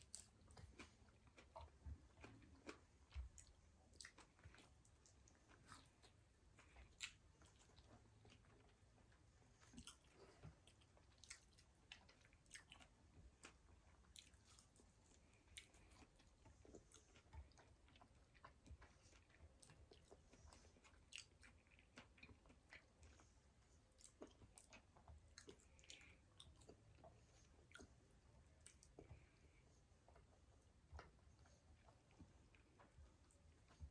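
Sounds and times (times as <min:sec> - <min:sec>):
chewing: 0:00.0 - 0:33.9.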